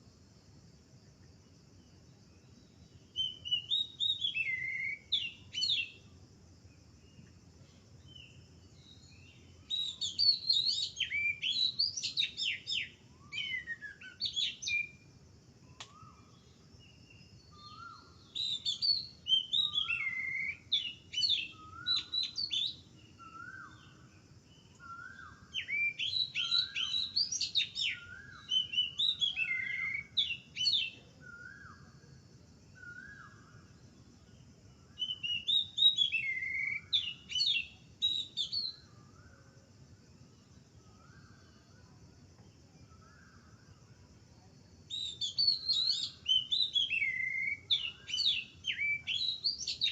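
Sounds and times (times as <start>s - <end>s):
small birds chirping: 1.1s - 32.1s, 32.7s - 39.4s, 40.2s - 49.9s.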